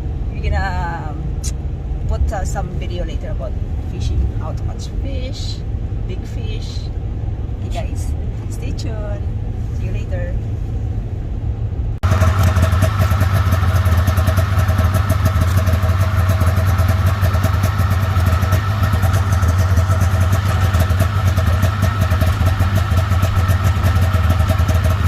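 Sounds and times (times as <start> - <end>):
motor engine running steadily: 0.0 - 25.0.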